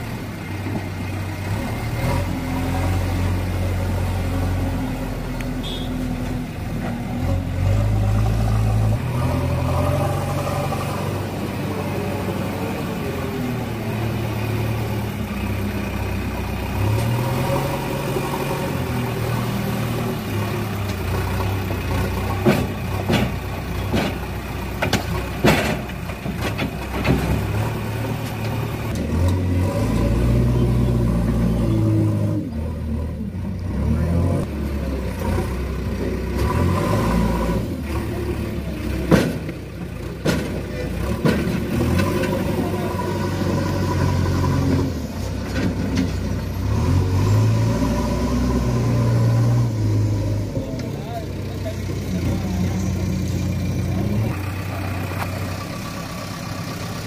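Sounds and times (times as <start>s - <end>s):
diesel engine working under load: 0.0s - 57.0s.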